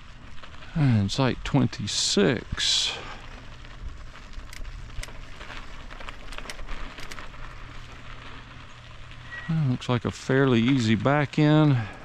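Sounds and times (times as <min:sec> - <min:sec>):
bicycle tyres crunching on gravel: 0:00.0 - 0:12.0
low steady rumble: 0:00.0 - 0:12.0.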